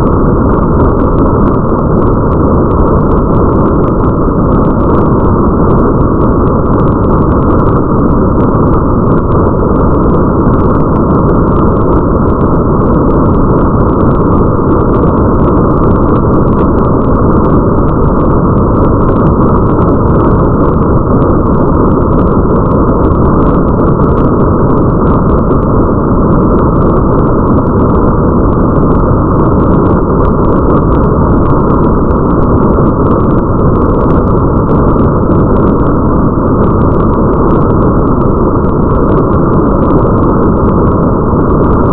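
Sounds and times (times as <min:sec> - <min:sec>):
faint rain patter ticks: 0:00.0 - 0:41.9
muffled rain rumbling hiss: 0:00.0 - 0:41.9.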